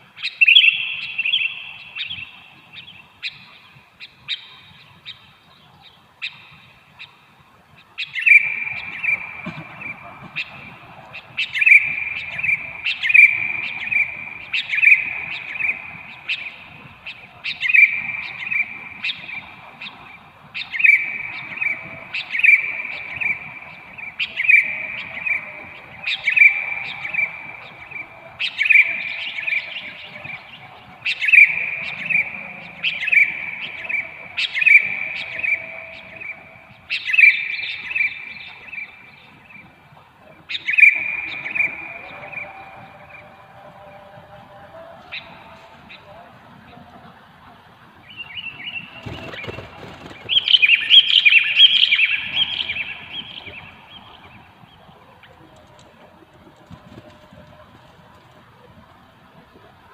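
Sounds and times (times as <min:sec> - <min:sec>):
birds chattering calls: 0:00.0 - 0:58.0.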